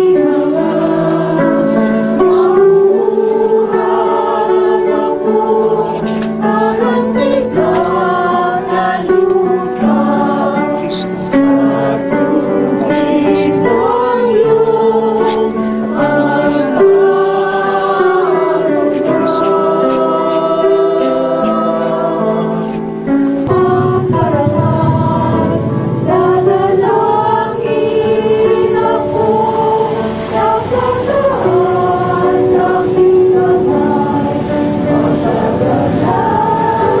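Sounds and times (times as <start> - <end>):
church choir singing a hymn: 0.0 - 37.0.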